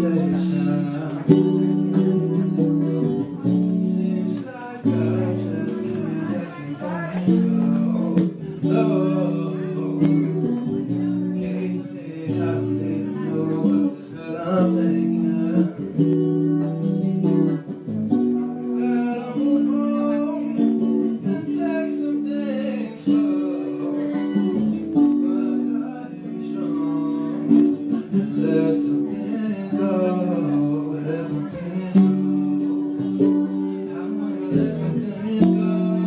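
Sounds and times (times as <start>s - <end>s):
electric guitar chords: 0.0s - 36.0s
man singing: 0.0s - 36.0s.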